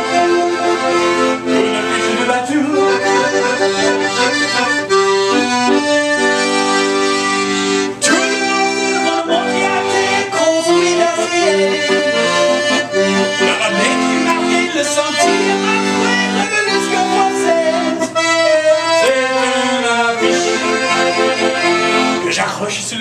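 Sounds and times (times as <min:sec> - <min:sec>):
accordion playing: 0:00.0 - 0:22.7.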